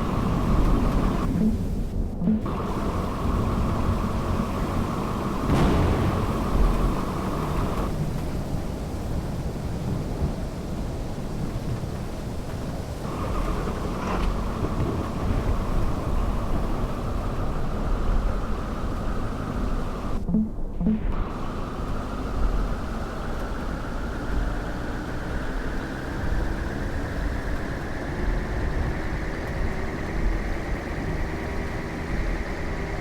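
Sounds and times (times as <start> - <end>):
car driving rumble: 0.0 - 33.0.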